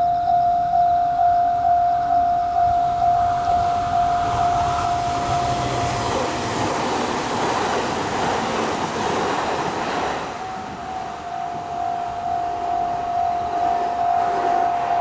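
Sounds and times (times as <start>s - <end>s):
level-crossing alarm dinging: 0.0s - 7.3s, 10.2s - 15.0s
electric train rumbling past: 0.0s - 15.0s.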